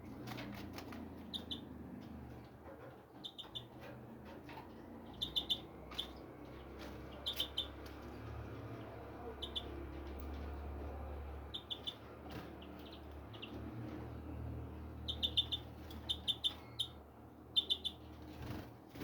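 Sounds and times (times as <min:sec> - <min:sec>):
small birds chirping: 0:00.2 - 0:03.9, 0:04.5 - 0:19.0.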